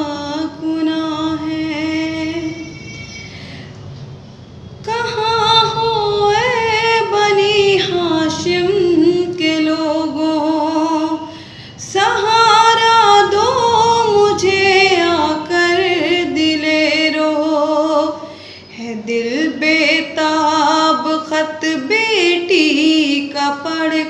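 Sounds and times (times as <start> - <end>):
woman singing lament: 0.0 - 2.7, 4.9 - 24.0.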